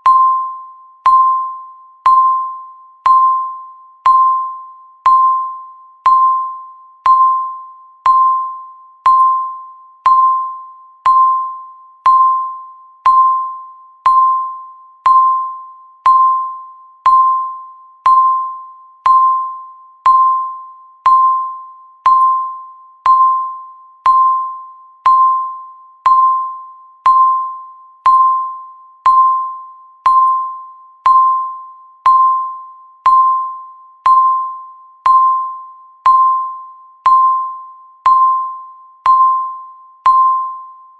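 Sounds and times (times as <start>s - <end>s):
ringing bell-like timer ticks: 0.0s - 40.9s.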